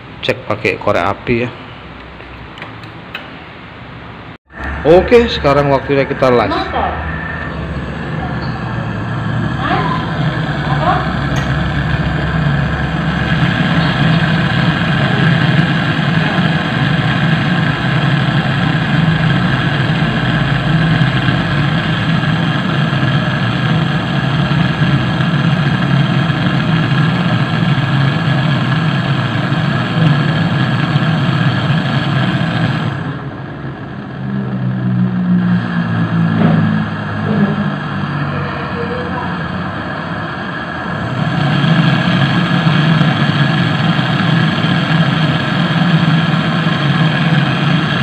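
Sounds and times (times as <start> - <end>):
low hum: 1.0 - 48.0
torch flame hissing: 4.6 - 34.7, 36.7 - 48.0.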